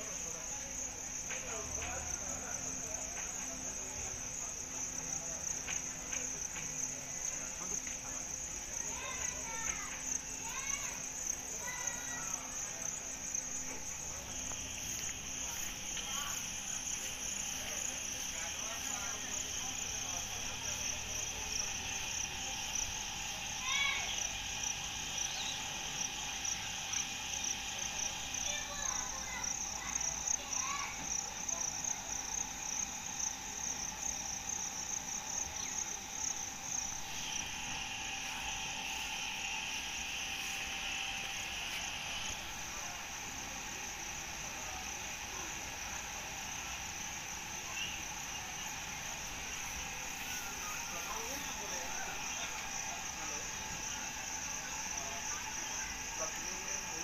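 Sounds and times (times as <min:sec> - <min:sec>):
high-pitched pulsing insect chorus: 0:00.0 - 0:57.0
lower insect buzz: 0:00.0 - 0:57.0.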